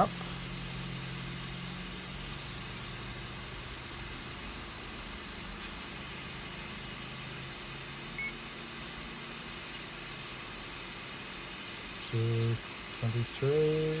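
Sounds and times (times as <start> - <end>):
faint low motor hum: 0.0 - 14.0
hot air blower fan hiss: 0.0 - 14.0.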